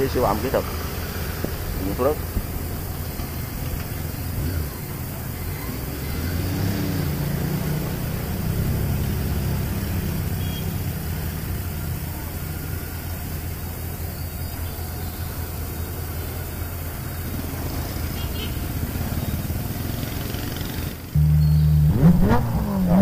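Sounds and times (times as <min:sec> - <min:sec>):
motorcycle engine idling: 0:00.0 - 0:06.0, 0:08.3 - 0:23.0.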